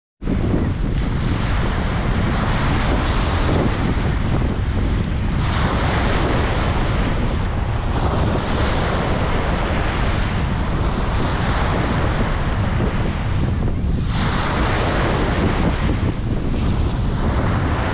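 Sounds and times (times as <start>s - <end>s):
wind buffeting microphone: 0.2s - 17.9s
ocean surf washing onto beach: 0.3s - 17.9s.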